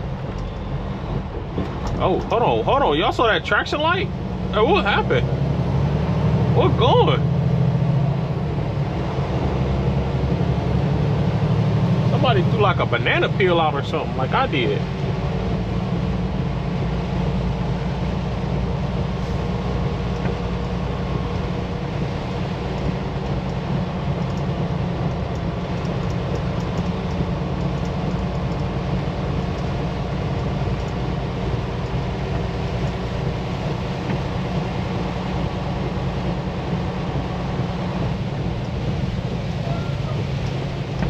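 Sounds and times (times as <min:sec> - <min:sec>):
road noise: 0:00.0 - 0:41.0
truck diesel engine drone: 0:00.0 - 0:41.0.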